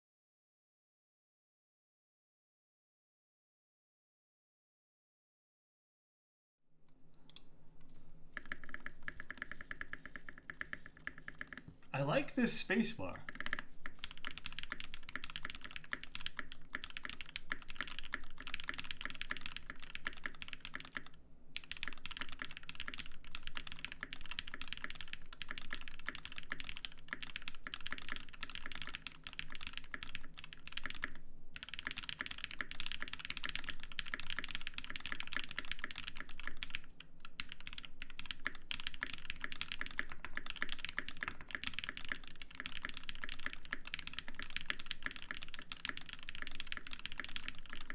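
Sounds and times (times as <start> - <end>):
mechanical keyboard typing: 8.3 - 12.2, 13.0 - 47.9.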